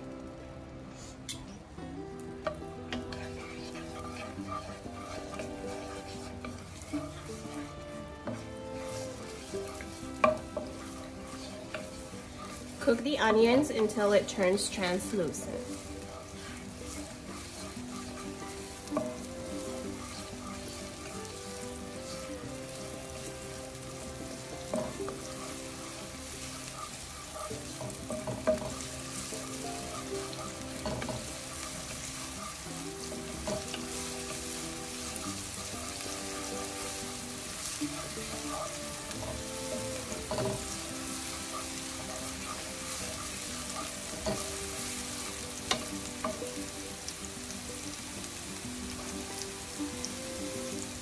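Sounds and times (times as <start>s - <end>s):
onions sizzling in a skillet: 0.0s - 51.0s.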